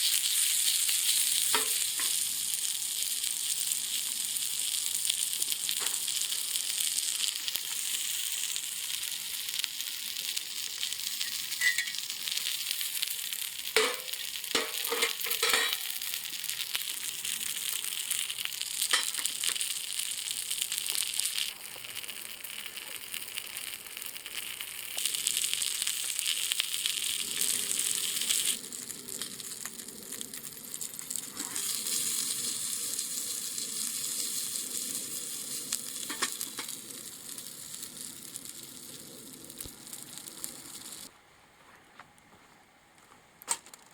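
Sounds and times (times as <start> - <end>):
food sizzling in a pan: 0.0 - 41.1.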